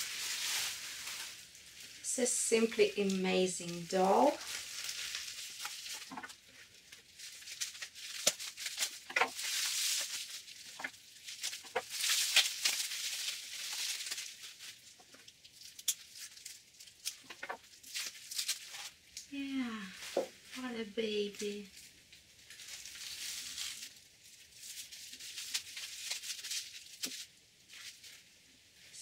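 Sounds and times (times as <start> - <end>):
bubble wrap crinkling and crackling: 0.0 - 29.0.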